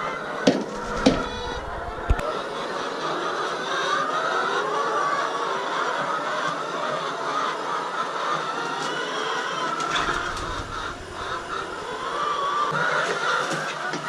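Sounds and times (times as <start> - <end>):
hens clucking: 0.4 - 9.2, 9.8 - 12.8.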